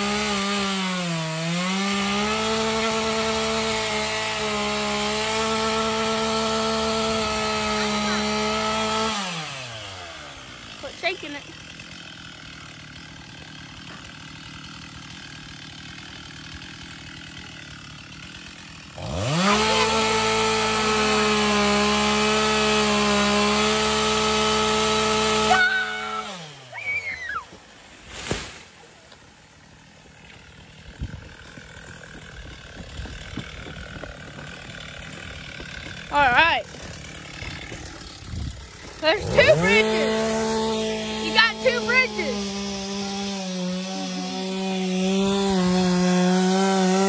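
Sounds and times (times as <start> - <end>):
chainsaw idling and revving: 0.0 - 47.0.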